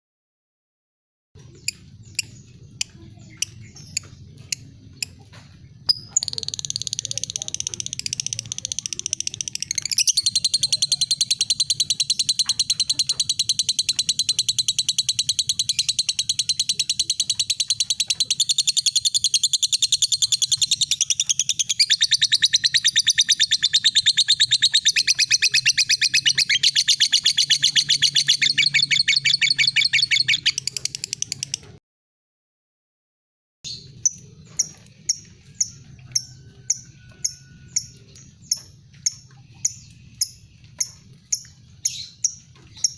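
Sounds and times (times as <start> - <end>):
lovebird chattering trill: 5.9 - 31.8, 33.7 - 42.9.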